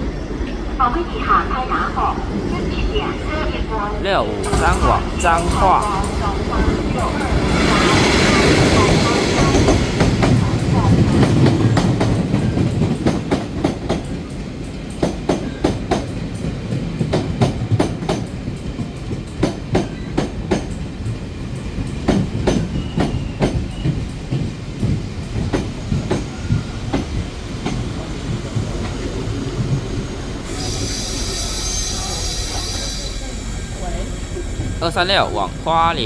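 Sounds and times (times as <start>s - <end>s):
train rumble: 0.0s - 36.0s
train wheels clacking over rail joints: 4.4s - 33.3s.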